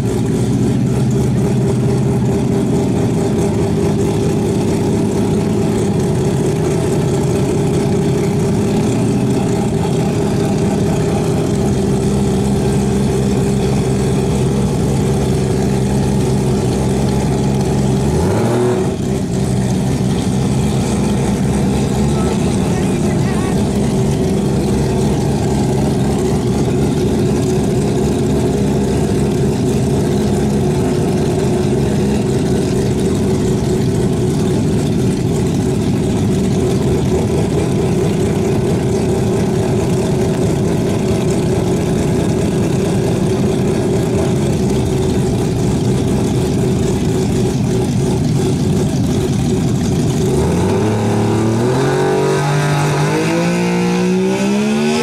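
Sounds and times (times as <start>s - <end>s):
rotary engine idling and revving: 0.0s - 55.0s.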